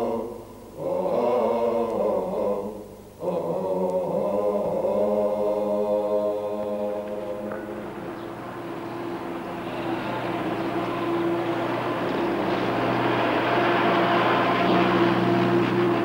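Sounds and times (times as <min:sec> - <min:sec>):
vocal chanting in long held notes: 0:00.0 - 0:16.0.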